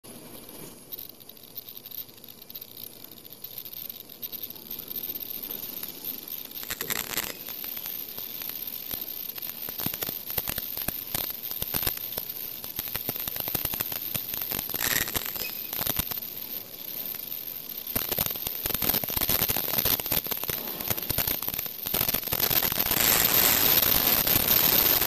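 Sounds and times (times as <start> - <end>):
faint high whine: 0.1 - 25.0
machine clicking and rattling: 0.1 - 25.0.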